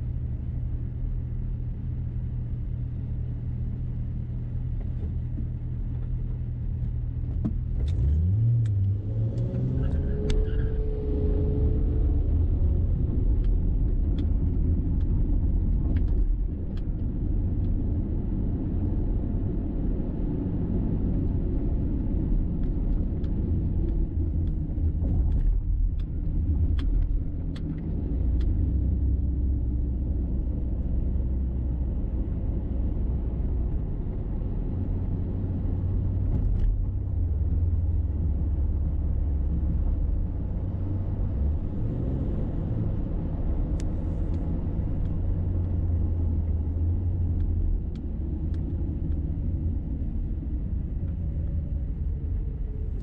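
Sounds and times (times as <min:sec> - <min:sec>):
car engine and tyre road noise: 0:00.0 - 0:53.0.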